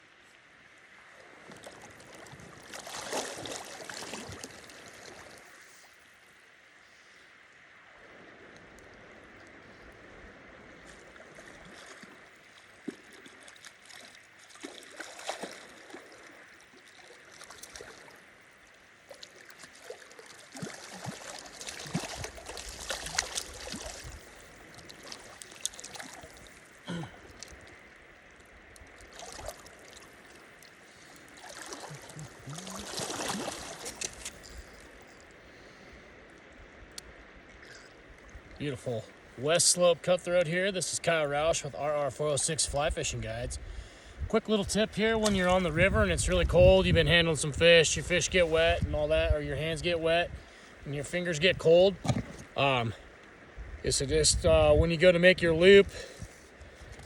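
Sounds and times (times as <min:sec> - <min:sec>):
water splashes: 0:00.0 - 0:06.4, 0:07.5 - 0:57.0
river water running: 0:00.0 - 0:57.0.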